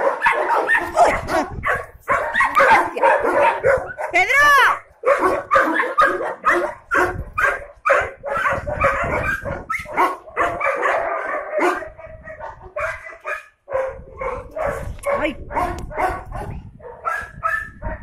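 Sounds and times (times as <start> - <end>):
dogs barking: 0.0 - 18.0.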